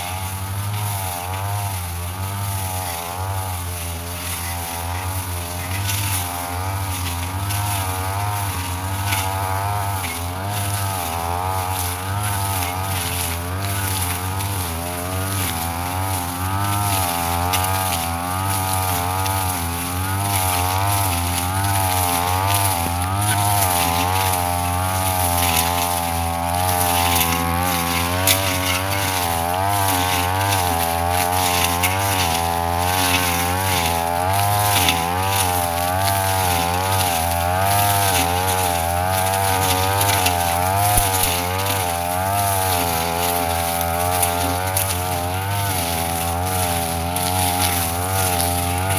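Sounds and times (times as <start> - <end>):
brush cutter engine cutting grass: 0.0 - 48.9.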